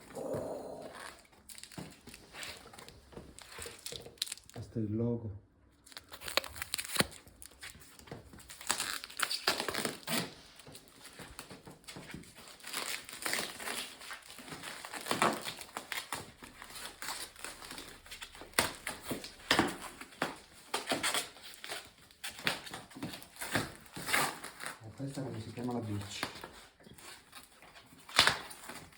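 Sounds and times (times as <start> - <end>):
packaging crinkling: 0.0 - 4.7, 5.8 - 28.9.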